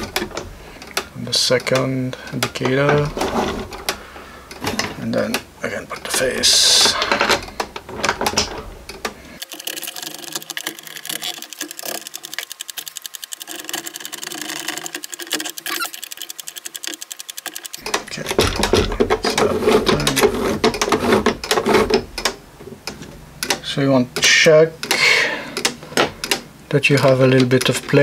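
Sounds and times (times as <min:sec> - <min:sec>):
plastic parts being handled: 0:00.0 - 0:23.7
clock mechanism clicking: 0:00.0 - 0:28.0.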